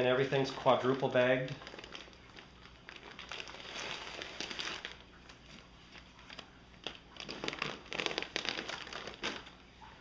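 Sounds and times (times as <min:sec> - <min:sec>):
plastic bags crinkling: 0:00.0 - 0:09.8.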